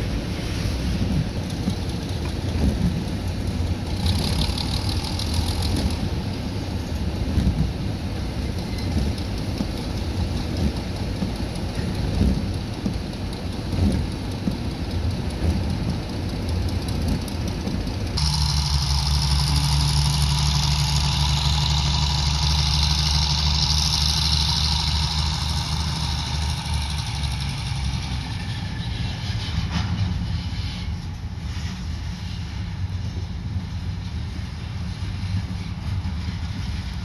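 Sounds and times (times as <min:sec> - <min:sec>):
diesel locomotive engine drone: 0:00.0 - 0:37.0.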